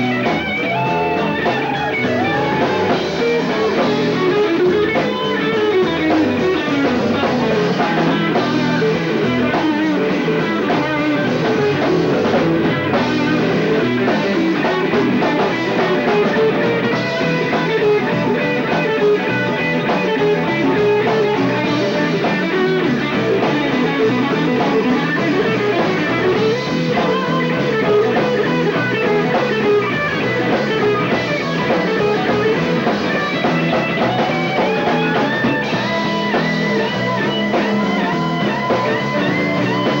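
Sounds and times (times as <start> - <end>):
electric guitar lead: 0.0 - 40.0
live rock band playing: 0.0 - 40.0.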